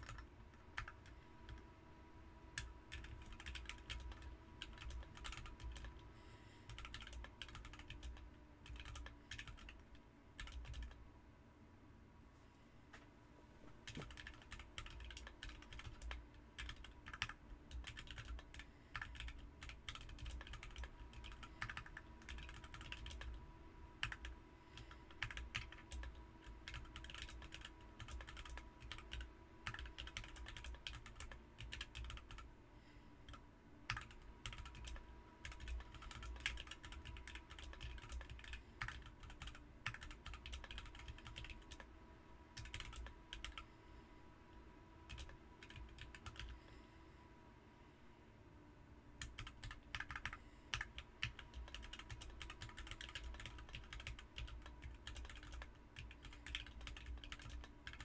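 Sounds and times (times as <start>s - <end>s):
mechanical keyboard typing: 0.0s - 1.6s, 2.6s - 6.0s, 6.7s - 11.0s, 13.8s - 23.4s, 24.0s - 32.5s, 33.3s - 41.9s, 42.6s - 43.6s, 45.1s - 46.6s, 49.2s - 58.0s.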